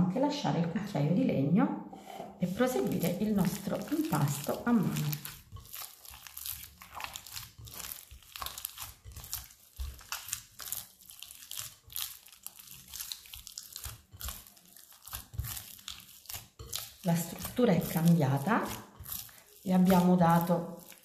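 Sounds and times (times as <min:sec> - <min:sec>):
hands kneading dough: 0:02.4 - 0:21.0.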